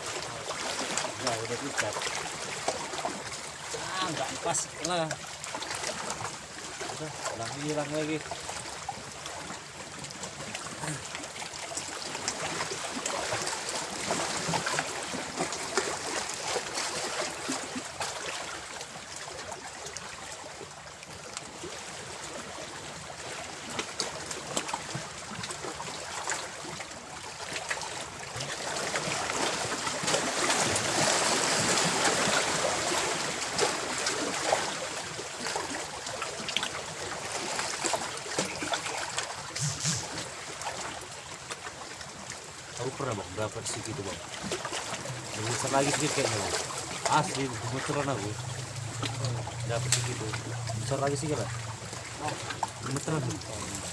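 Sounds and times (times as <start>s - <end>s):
water running and trickling: 0.0s - 53.9s.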